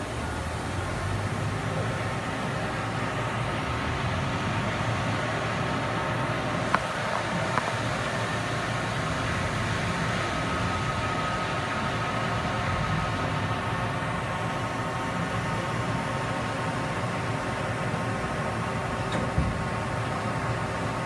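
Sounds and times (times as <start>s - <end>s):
faint steady whine: 0.0s - 21.0s
machine mechanical hum: 0.0s - 21.0s.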